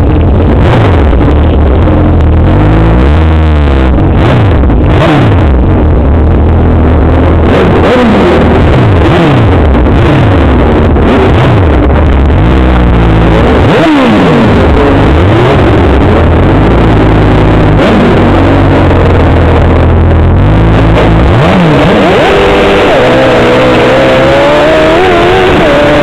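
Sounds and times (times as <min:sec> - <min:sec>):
atv engines at full throttle: 0:00.0 - 0:26.0.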